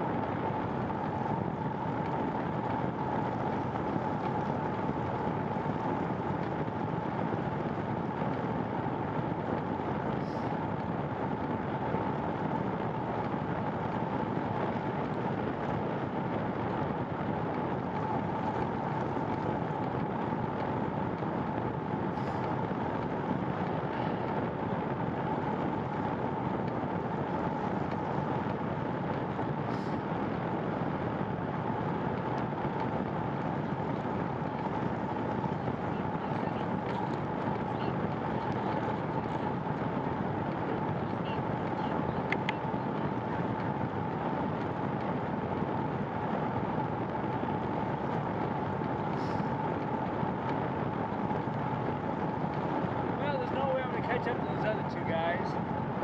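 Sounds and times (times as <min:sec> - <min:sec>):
constant high hum: 0:00.0 - 0:56.0
wind and bicycle road noise: 0:00.0 - 0:56.0.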